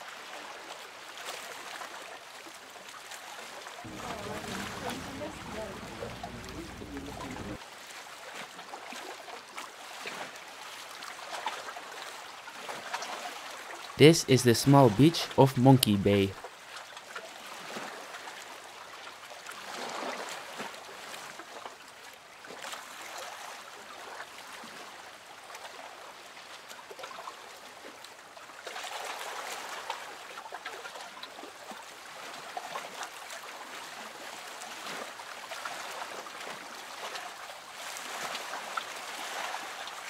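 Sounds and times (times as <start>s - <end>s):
small waves lapping on sand: 0.0s - 13.7s, 17.3s - 40.0s.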